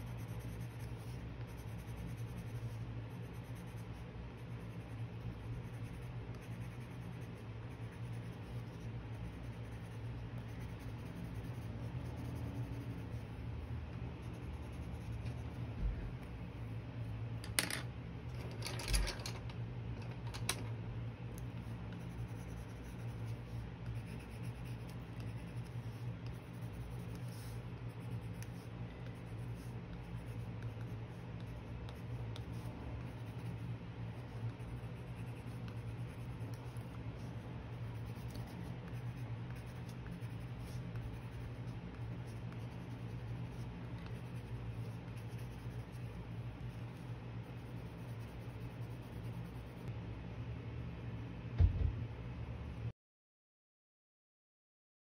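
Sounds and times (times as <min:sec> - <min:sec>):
colored pencil scratching on paper: 0:00.0 - 0:16.0, 0:21.4 - 0:49.9
steady low hum: 0:00.0 - 0:52.9.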